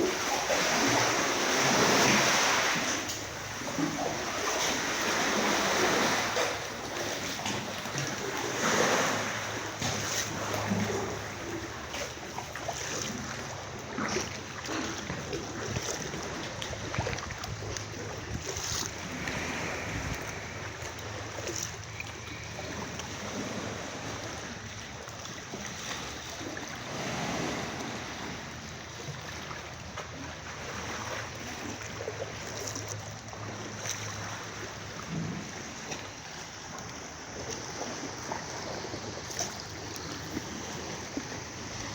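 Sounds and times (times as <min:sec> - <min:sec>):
water splashing around a kayak: 0:00.0 - 0:41.9.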